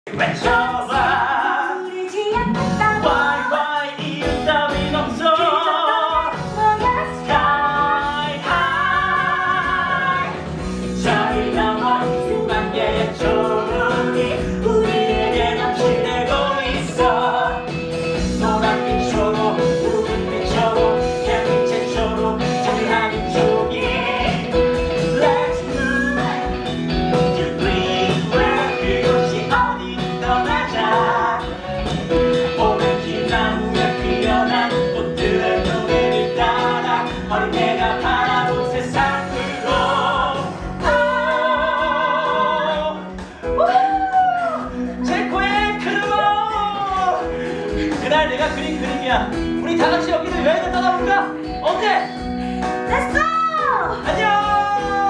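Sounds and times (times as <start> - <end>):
person singing through microphones: 0.1 - 51.6, 52.9 - 55.0
band accompaniment: 0.1 - 55.0.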